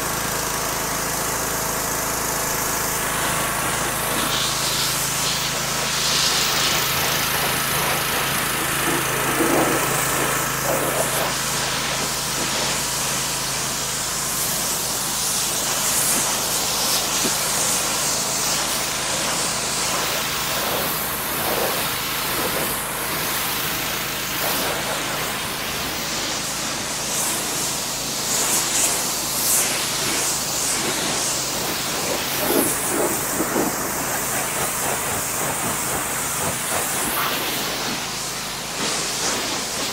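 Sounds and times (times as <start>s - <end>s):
pressure washer engine running: 0.0s - 39.9s
water spray hissing on metal: 1.7s - 39.9s.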